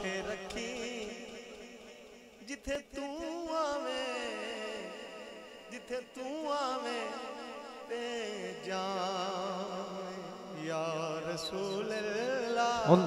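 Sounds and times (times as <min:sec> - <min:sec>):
man singing devotional verse: 0:00.0 - 0:13.0.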